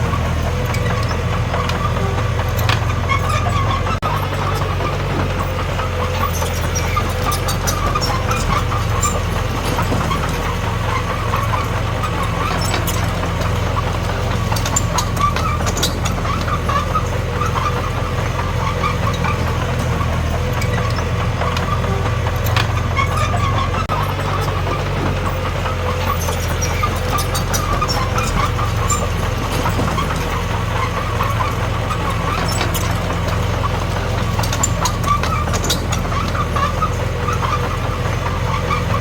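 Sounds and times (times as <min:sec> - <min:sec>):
bulldozer diesel engine droning: 0:00.0 - 0:39.0.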